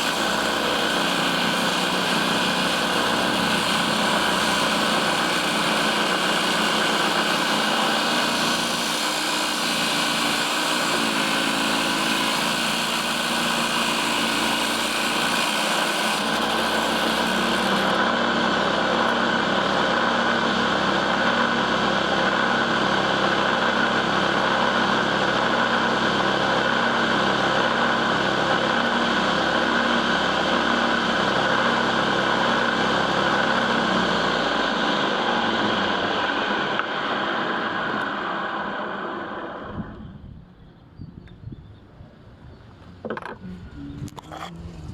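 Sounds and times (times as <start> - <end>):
table saw motor whining: 0.0 - 40.1
low motor hum: 0.0 - 44.9.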